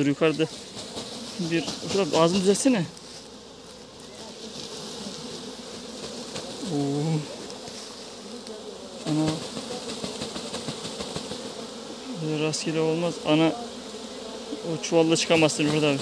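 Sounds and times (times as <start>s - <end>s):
bee swarm buzzing: 0.0s - 16.0s.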